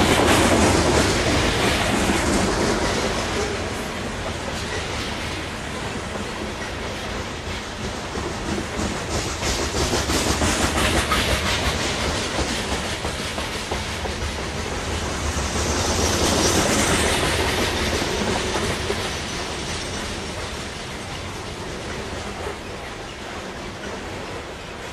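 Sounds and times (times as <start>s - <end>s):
freight train rumble: 0.0s - 24.9s
train wheels clacking over rail joints: 0.0s - 24.9s.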